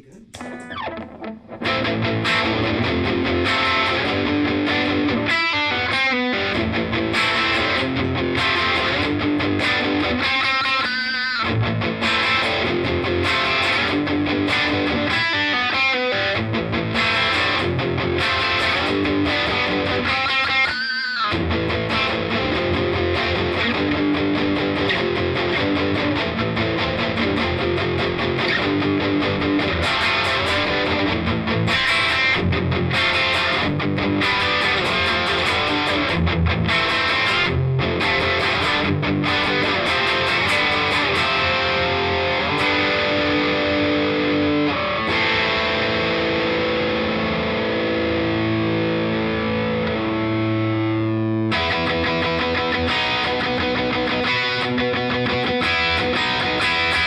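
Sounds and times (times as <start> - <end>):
distorted electric guitar riffs: 0.0 - 57.0.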